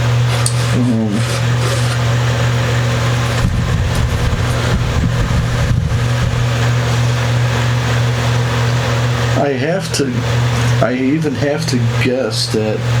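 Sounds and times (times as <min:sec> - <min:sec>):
low rumbling: 0:00.0 - 0:10.6
low mechanical hum: 0:00.0 - 0:13.0.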